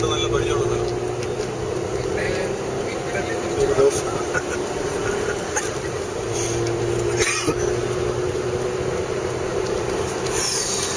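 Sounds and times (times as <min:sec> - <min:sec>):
car engine and road noise: 0:00.0 - 0:10.9.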